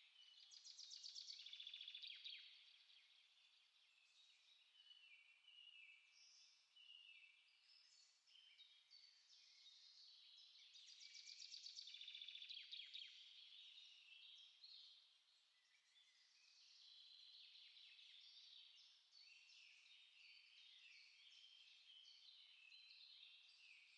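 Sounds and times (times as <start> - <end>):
songbirds chirping and singing: 0.0 - 23.9.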